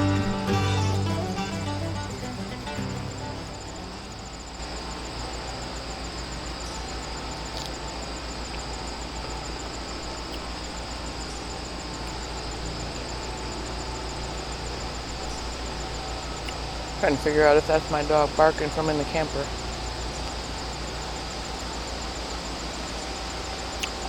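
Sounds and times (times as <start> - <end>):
insects chirping: 0.0 - 24.0
outdoor hiss: 0.0 - 24.0.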